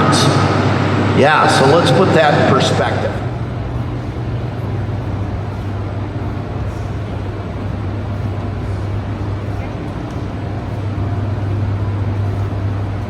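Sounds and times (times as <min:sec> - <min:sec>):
generator hall hum and rush: 0:00.0 - 0:13.0.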